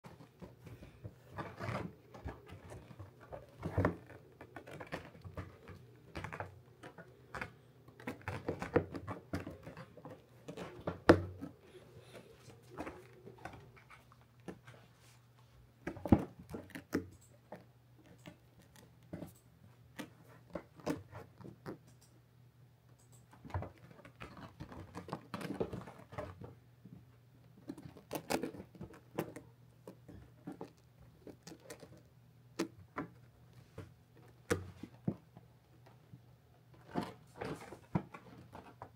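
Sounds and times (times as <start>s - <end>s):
hamster rustling and scratching: 0.0s - 21.8s, 23.3s - 38.9s.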